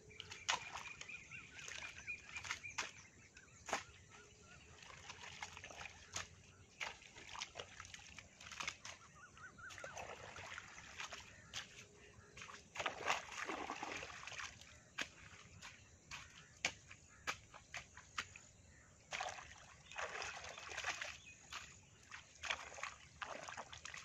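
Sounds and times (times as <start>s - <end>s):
water sloshing: 0.0s - 24.0s
water splashing and trickling: 0.0s - 24.0s.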